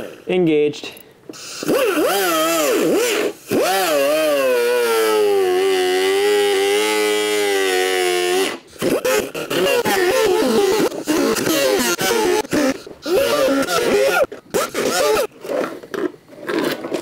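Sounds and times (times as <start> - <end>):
air cutting tool cutting plastic: 1.3 - 15.8.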